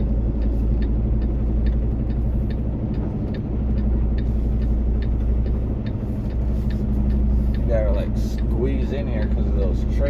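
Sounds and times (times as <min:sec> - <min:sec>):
diesel engine low hum: 0:00.0 - 0:10.0
light regular ticking: 0:00.0 - 0:10.0.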